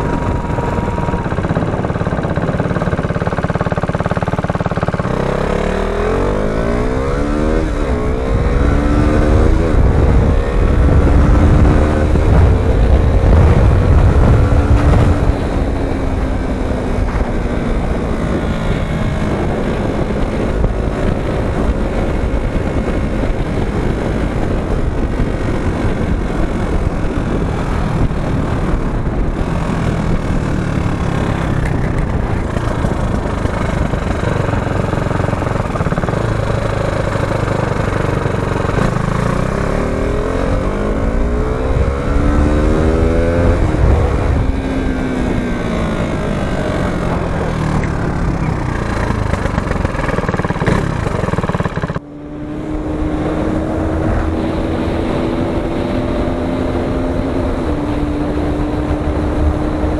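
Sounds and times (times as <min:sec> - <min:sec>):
motorcycle cruising: 0:00.0 - 0:59.9
motorcycle engine revving: 0:00.0 - 0:59.9
wind and road noise: 0:00.0 - 0:59.9.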